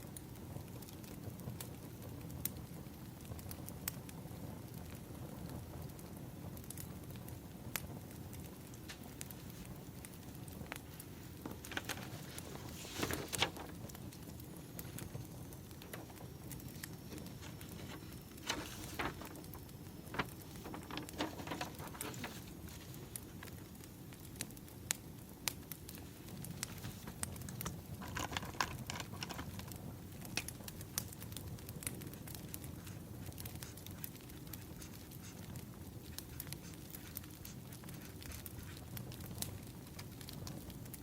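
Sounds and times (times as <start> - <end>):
low rush of burning logs: 0.0 - 41.0
wood fire crackling and popping: 0.0 - 41.0.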